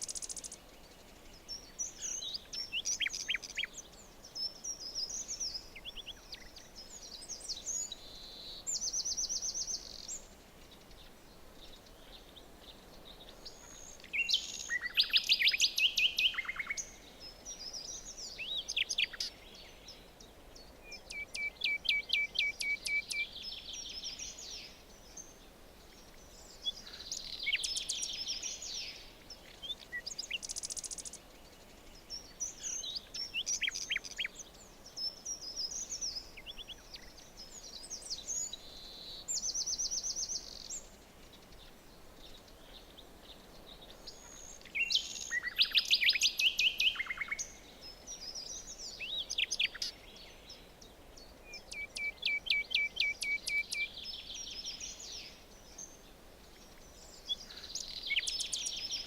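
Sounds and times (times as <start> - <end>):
faint background hiss: 0.0 - 59.0
songbirds trilling and chirping: 0.0 - 59.0.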